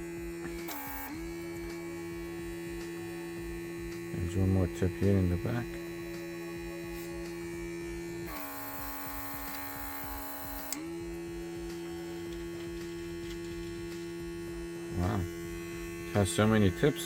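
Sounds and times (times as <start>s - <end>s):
small compressor humming: 0.0s - 17.0s.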